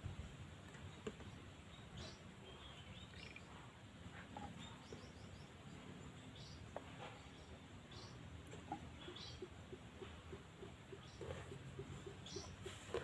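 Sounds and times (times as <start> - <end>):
faint bird chirps: 0.7 - 13.0.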